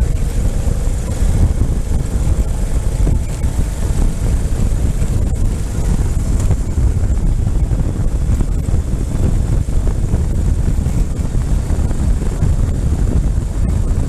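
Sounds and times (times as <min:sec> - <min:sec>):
motorcycle engine rumbling: 0:00.0 - 0:14.0
wind buffeting microphone: 0:00.0 - 0:14.0.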